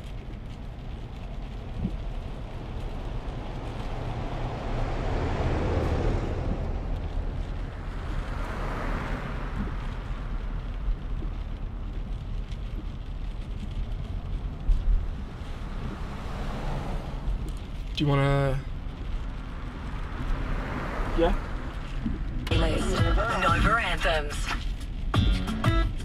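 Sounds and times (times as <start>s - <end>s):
car cabin road noise: 0.0s - 26.0s
passing traffic whooshes: 0.0s - 26.0s.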